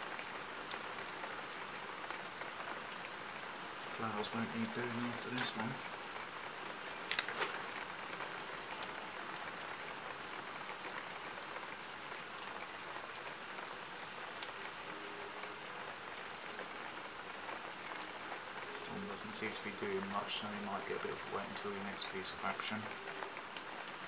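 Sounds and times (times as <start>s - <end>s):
rain hissing: 0.0s - 24.0s
raindrops ticking: 0.0s - 24.0s.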